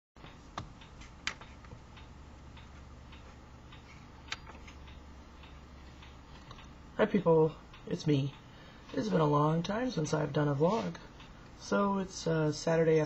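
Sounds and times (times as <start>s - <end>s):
faint light ticking: 0.2s - 11.8s
steady low hum: 0.2s - 13.0s.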